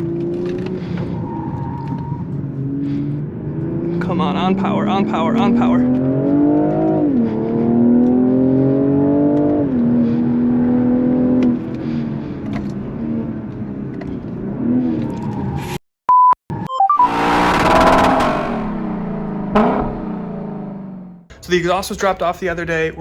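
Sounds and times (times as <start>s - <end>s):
car engine accelerating hard: 0.0s - 15.6s, 17.0s - 21.3s.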